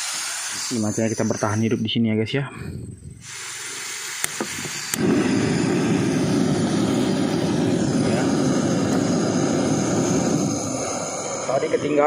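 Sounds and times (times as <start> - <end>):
gas flame rushing: 0.0 - 12.0.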